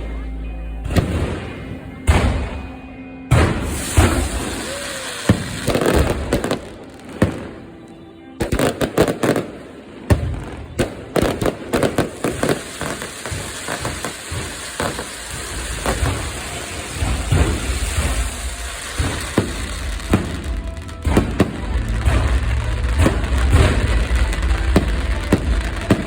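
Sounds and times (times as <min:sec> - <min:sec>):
fireworks cracks and bangs: 0:00.8 - 0:26.0.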